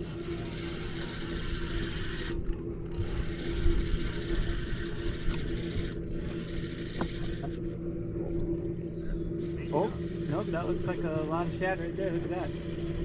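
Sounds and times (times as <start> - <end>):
fishing reel whirring: 0.0 - 7.8, 9.4 - 13.0
low hum: 0.0 - 13.0.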